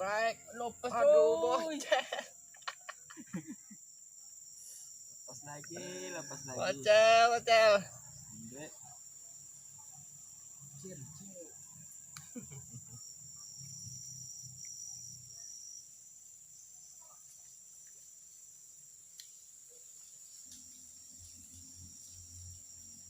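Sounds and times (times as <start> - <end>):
high insect trill: 0.0 - 23.0
insects trilling: 0.0 - 23.0.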